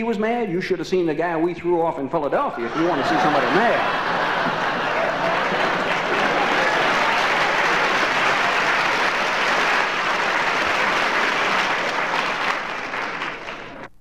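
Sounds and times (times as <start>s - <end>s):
audience applauding: 2.6s - 13.9s.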